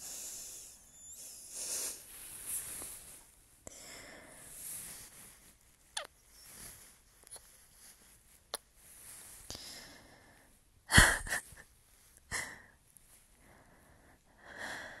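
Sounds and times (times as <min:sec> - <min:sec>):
soft breaths: 0:00.0 - 0:15.0.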